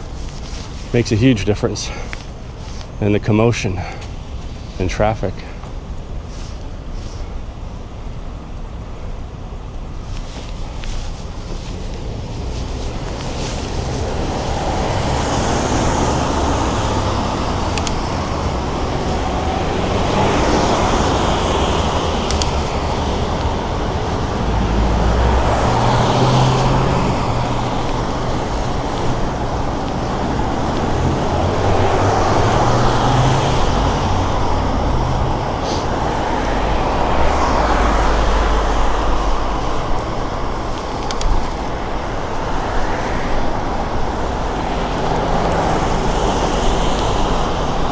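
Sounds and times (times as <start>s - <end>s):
road traffic passing: 0.0s - 47.9s.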